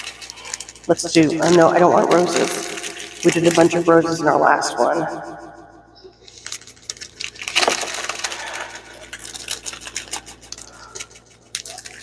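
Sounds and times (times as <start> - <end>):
plastic sleeves crinkling: 0.0 - 4.0, 6.2 - 12.0.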